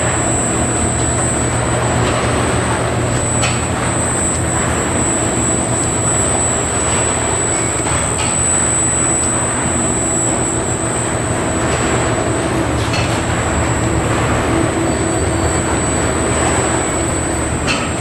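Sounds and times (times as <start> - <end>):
mixer mechanical hum: 0.0 - 18.0.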